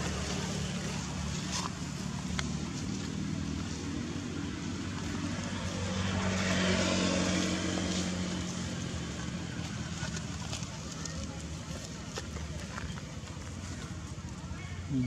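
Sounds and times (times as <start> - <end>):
vehicle engine passing by: 0.0 - 12.6.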